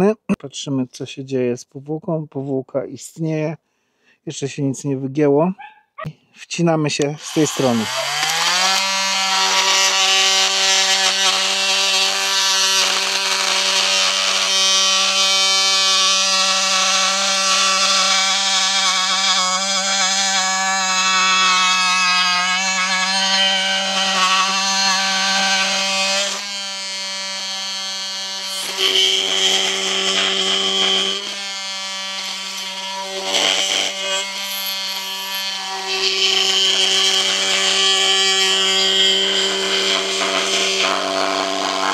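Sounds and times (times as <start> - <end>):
oscillating multitool cutting wood: 7.0 - 41.9.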